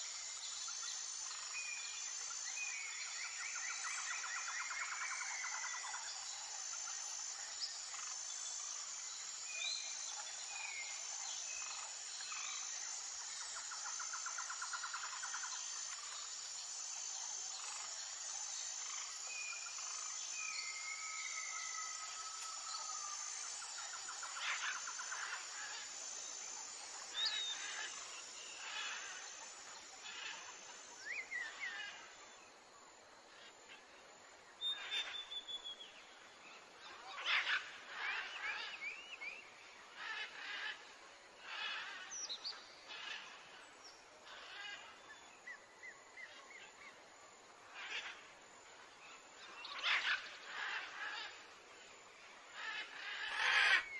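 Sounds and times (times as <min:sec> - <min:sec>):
insect drone: 0:00.0 - 0:53.9.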